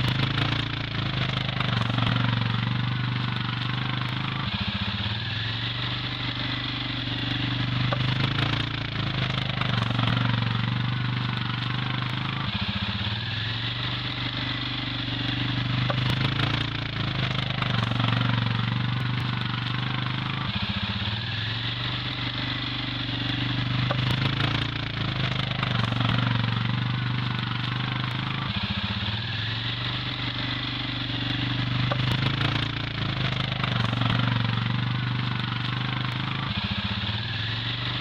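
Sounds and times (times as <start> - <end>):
quad bike engine running: 0.0 - 38.0.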